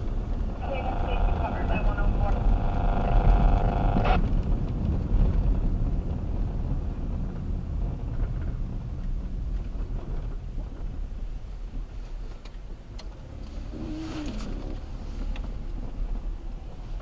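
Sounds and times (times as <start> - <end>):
vehicle engine rumble and road noise: 0.0 - 17.0.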